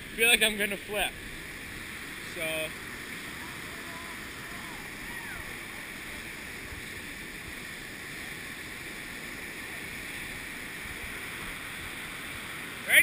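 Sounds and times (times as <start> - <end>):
whitewater rapids roaring: 0.0 - 13.0.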